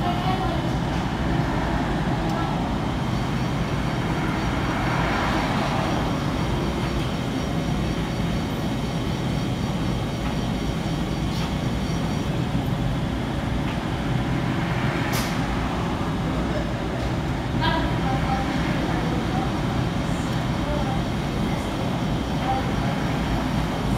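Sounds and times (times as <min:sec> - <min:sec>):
washing machines rumbling: 0:00.0 - 0:23.9.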